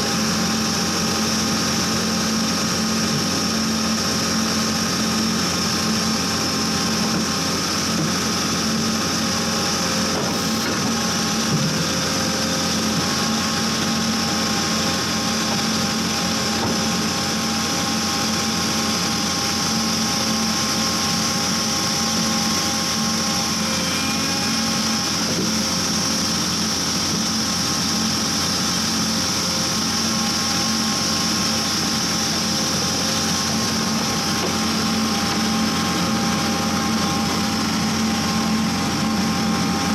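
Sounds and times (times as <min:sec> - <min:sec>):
drill rig engine droning: 0:00.0 - 0:39.9
steady high whine: 0:00.0 - 0:39.9.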